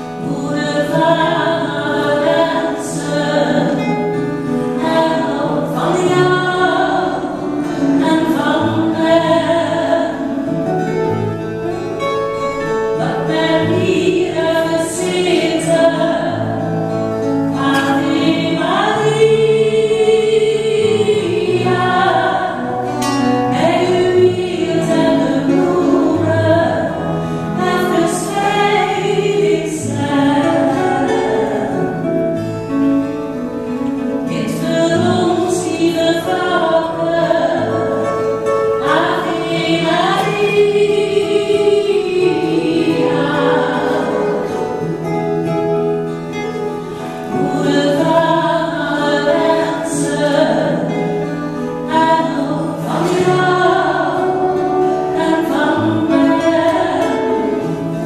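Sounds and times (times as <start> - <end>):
two people singing slow song: 0.0 - 11.0, 12.9 - 32.4, 34.2 - 58.0
strummed acoustic guitars: 0.0 - 58.0.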